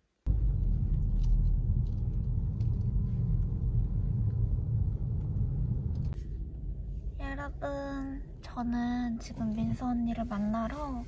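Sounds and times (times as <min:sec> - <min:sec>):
car engine and tyres rumbling: 0:00.2 - 0:11.0.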